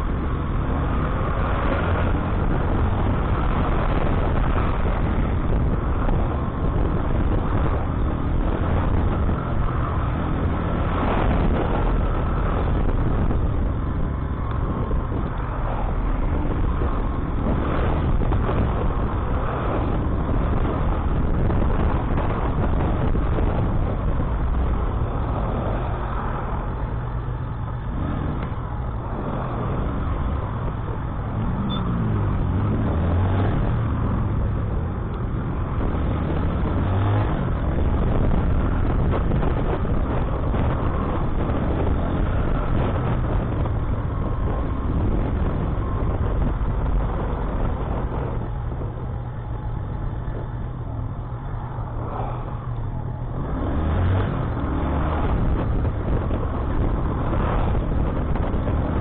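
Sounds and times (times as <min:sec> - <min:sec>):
passing bus engine: 0:00.0 - 0:59.0
tyre noise on wet road: 0:00.0 - 0:59.0.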